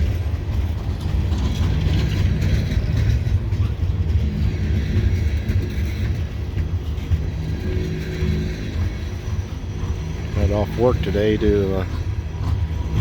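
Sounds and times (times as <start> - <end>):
train cars rumbling past: 0.0 - 13.0
wheels clattering on rails: 0.0 - 13.0.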